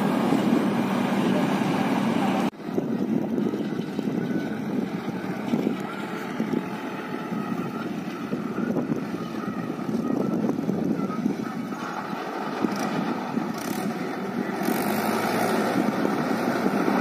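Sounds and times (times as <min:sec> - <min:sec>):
distant tractor engine: 0:00.0 - 0:17.0
wind buffeting microphone: 0:00.0 - 0:17.0.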